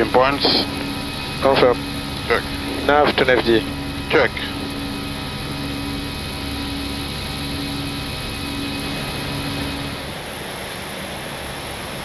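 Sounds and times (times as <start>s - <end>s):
pulsing low hum: 0.0s - 10.4s
aircraft cockpit noise: 0.0s - 12.0s.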